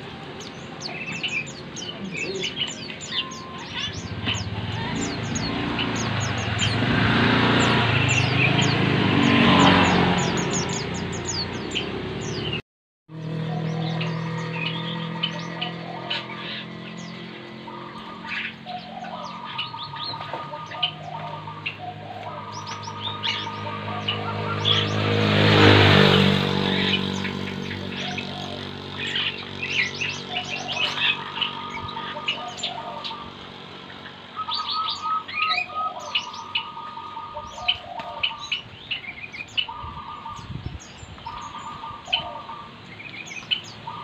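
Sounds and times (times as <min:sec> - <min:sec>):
caged birds chirping: 0:00.0 - 0:44.0
traffic noise: 0:00.0 - 0:44.0.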